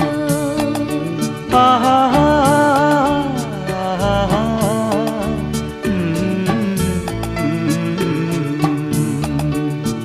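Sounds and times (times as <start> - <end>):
film-style song with gliding melody: 0.0 - 10.0.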